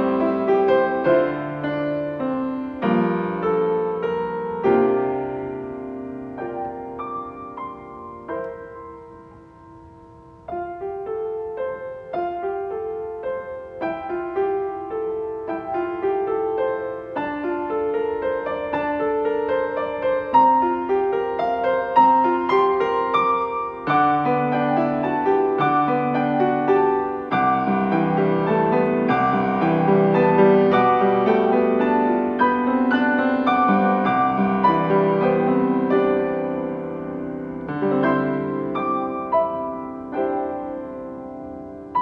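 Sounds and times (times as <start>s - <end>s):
slow gentle solo piano: 0.0s - 42.0s.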